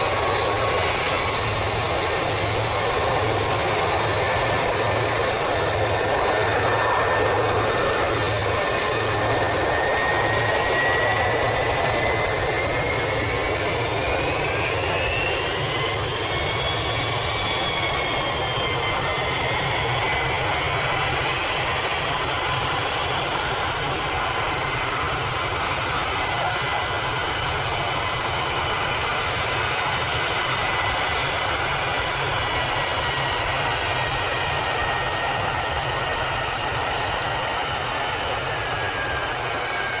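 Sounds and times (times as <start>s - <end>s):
jet engines rumbling and whining: 0.0s - 40.0s.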